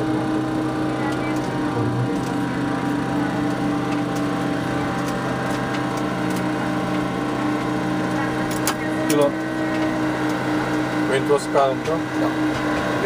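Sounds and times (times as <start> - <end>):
cockpit mechanical hum: 0.0 - 13.0.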